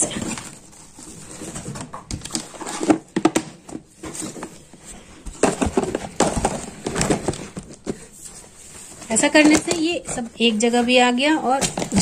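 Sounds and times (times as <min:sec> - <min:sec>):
plastic packets rustling and knocking: 0:00.0 - 0:12.0.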